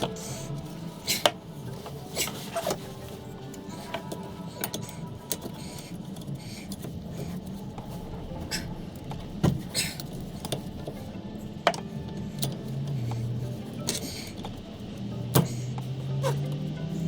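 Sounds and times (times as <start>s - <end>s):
hand tools clicking and knocking: 0.0s - 16.7s
low hum: 0.0s - 17.0s.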